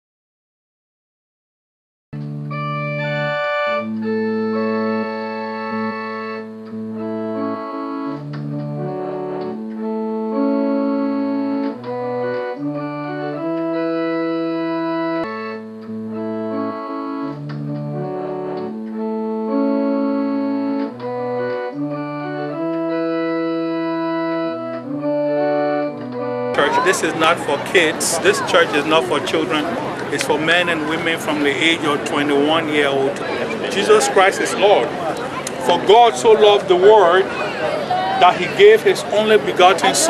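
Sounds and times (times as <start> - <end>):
organ-like keyboard chords: 2.2 - 40.0.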